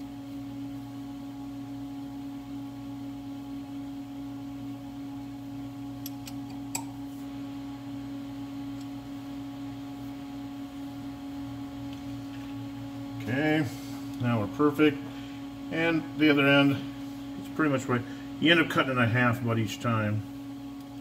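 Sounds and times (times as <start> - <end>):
lathe electrical hum: 0.0 - 21.0.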